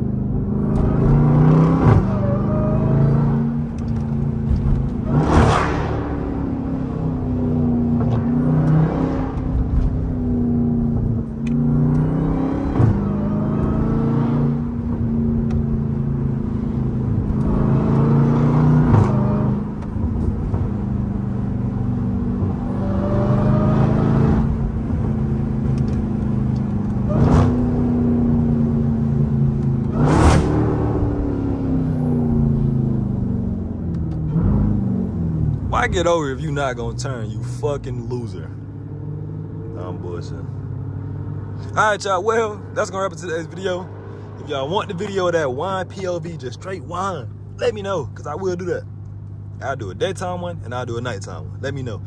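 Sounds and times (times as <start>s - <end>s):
engine revving: 0.0s - 48.4s.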